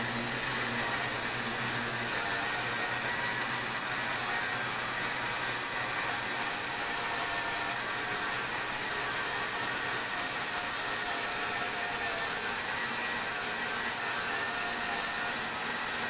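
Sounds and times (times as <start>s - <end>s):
sawmill whining through log: 0.0s - 16.0s.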